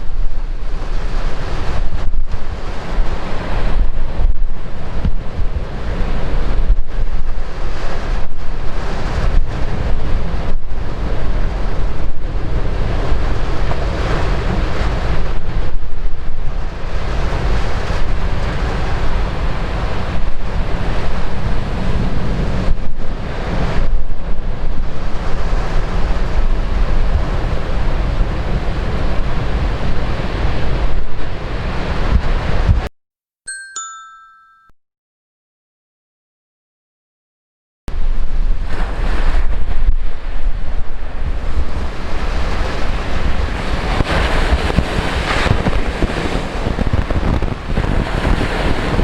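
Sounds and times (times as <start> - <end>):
surf pounding the shore: 0.0 - 32.9, 37.9 - 49.0
wind buffeting microphone: 0.0 - 32.9, 37.9 - 49.0.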